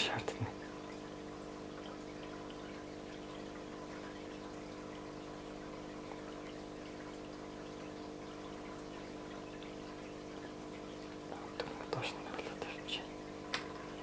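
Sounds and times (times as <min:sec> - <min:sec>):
faint water trickle: 0:00.0 - 0:14.0
machine hum with held tones: 0:00.4 - 0:14.0.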